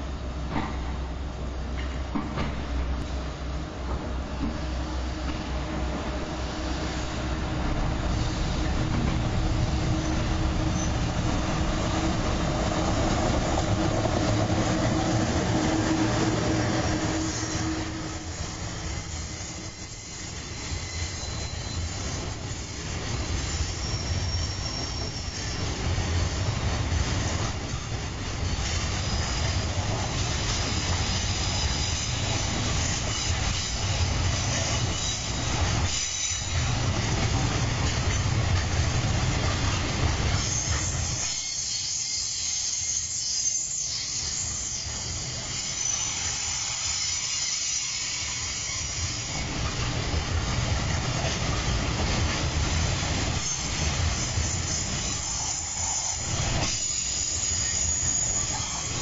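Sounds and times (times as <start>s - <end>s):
electric locomotive hum: 0.0s - 59.0s
train wheels clattering: 3.8s - 59.0s.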